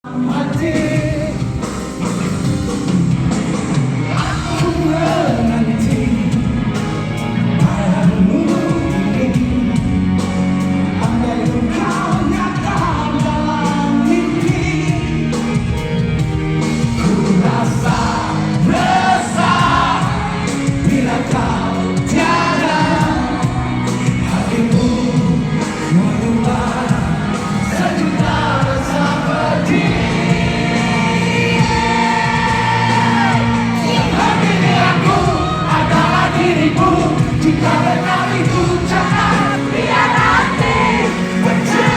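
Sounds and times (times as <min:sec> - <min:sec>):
lead vocal singing: 0:00.0 - 0:41.9
live band playing: 0:00.0 - 0:41.9.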